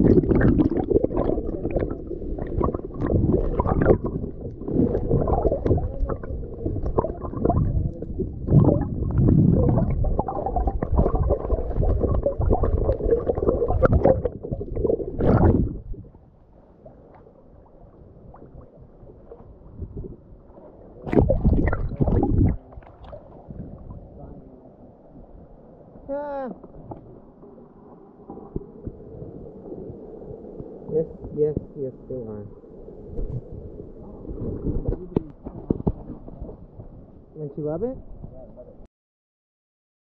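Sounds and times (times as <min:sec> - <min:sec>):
water splashing: 0:00.0 - 0:16.1, 0:16.8 - 0:24.7, 0:28.2 - 0:37.0
muffled underwater gurgling: 0:00.0 - 0:16.2, 0:17.4 - 0:25.4, 0:26.0 - 0:38.9.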